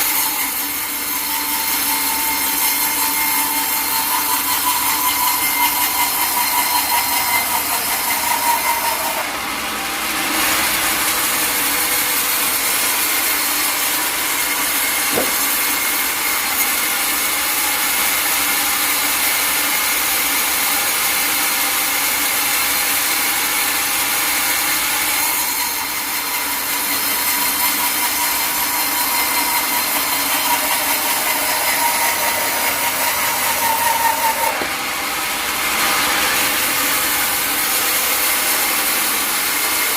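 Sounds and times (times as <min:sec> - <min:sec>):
saw blade cutting log: 0:00.0 - 0:39.9.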